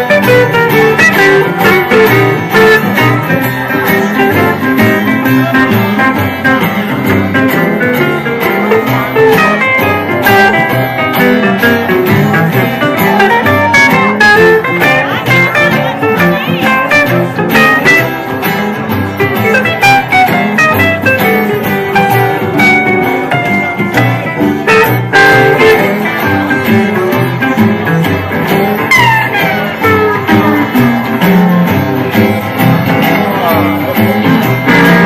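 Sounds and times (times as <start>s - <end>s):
acoustic guitars strumming: 0.0s - 35.0s
steel guitar sliding notes: 0.0s - 35.0s.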